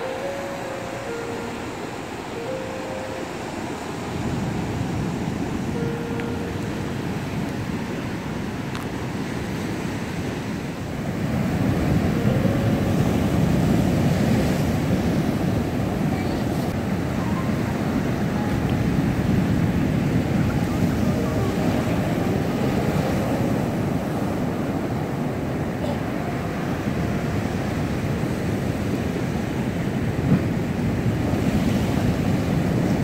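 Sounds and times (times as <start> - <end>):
sea surf breaking on rocks: 0.0 - 33.0.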